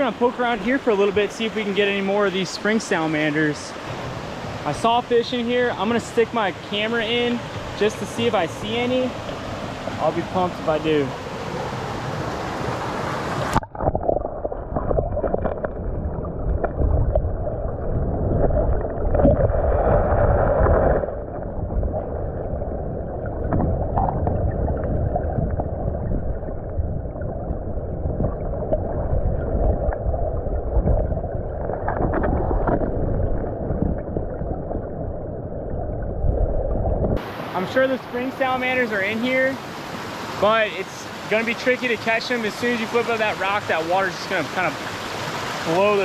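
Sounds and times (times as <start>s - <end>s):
muffled underwater stream rushing: 0.0s - 46.0s.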